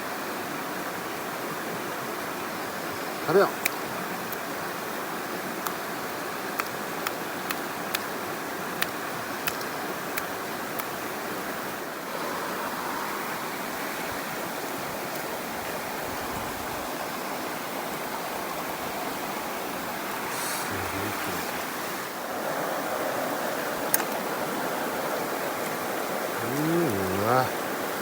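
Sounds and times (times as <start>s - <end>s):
stream rushing over rocks: 0.1s - 28.0s.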